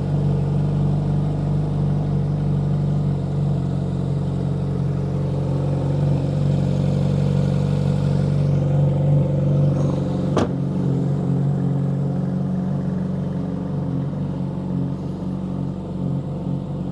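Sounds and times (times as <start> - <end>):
sports car engine idling: 0.0 - 16.9.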